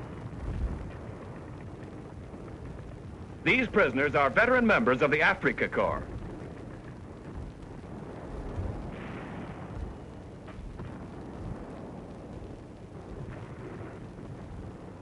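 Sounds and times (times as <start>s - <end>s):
distant artillery rumble and thuds: 0.0s - 15.0s.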